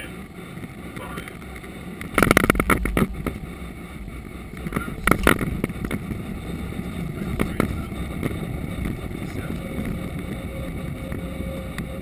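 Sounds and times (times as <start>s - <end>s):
aircraft engine noise: 0.0s - 12.0s
rushing airflow: 0.0s - 12.0s.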